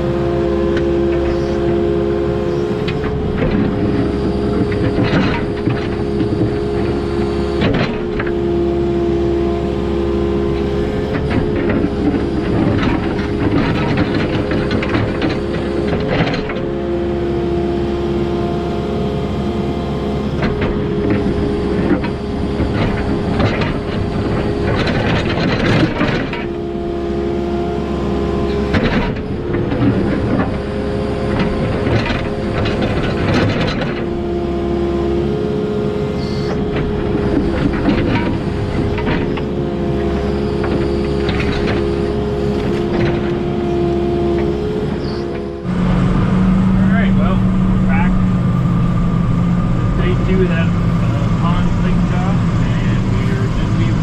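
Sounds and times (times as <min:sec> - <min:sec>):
excavator engine drone: 0:00.0 - 0:54.0
hydraulic whine: 0:00.0 - 0:54.0.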